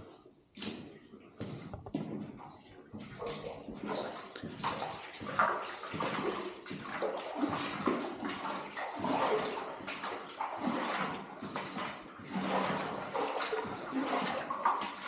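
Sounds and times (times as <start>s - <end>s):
footsteps splashing in shallow water: 0.0s - 15.0s.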